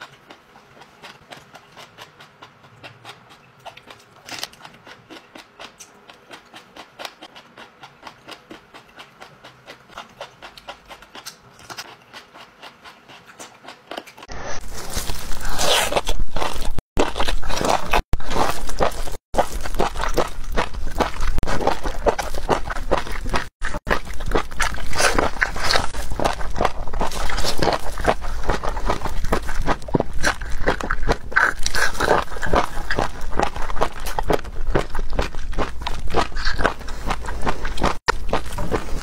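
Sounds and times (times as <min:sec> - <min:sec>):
crisp crunching chewing: 0:00.0 - 0:39.0
wet biting and chewing: 0:00.0 - 0:39.0.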